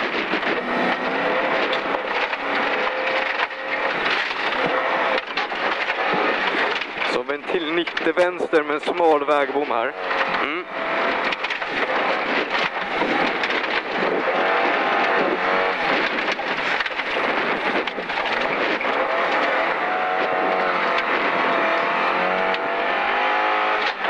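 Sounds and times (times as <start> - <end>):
car engine revving through gears: 0.0 - 24.0
tyre and gravel rush: 0.0 - 24.0.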